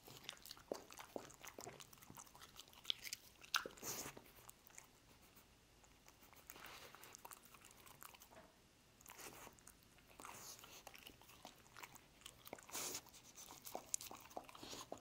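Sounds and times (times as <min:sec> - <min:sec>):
dog crunching and chewing: 0:00.0 - 0:05.2, 0:05.8 - 0:08.4, 0:09.0 - 0:15.0.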